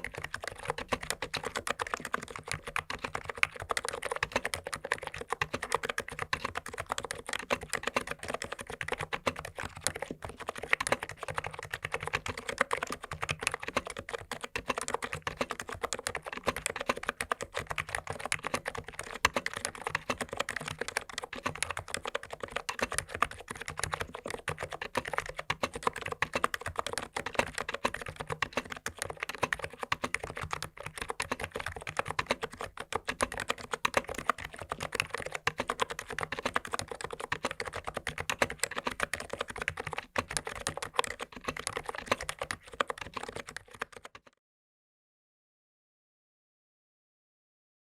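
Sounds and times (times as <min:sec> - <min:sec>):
typing on keyboard: 0:00.0 - 0:44.4.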